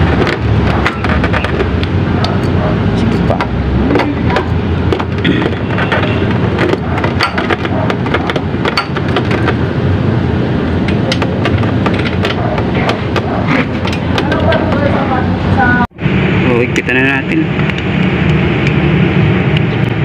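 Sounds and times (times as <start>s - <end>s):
loud background rumble: 0.0s - 20.0s.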